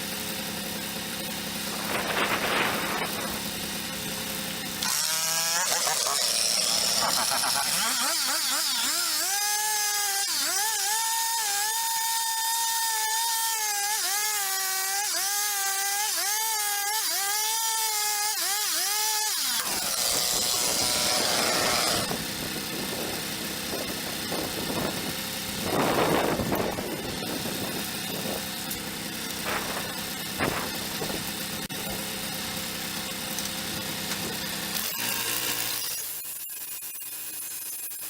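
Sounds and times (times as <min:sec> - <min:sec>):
rough machine noise: 0:00.0 - 0:18.3, 0:19.0 - 0:38.0
band saw whining through log: 0:00.0 - 0:38.0.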